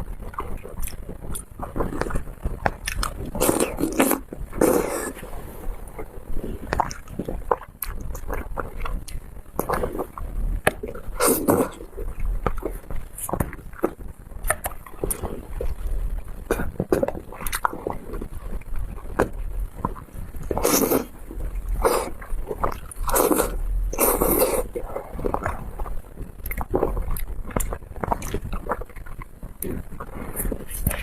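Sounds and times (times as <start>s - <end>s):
noisy slurps: 0.0s - 15.8s, 18.9s - 31.0s
person chewing: 0.2s - 15.8s, 16.5s - 31.0s.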